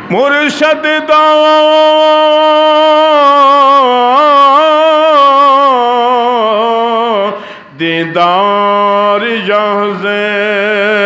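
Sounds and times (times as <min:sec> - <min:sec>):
man chanting devotional verse: 0:00.0 - 0:11.0.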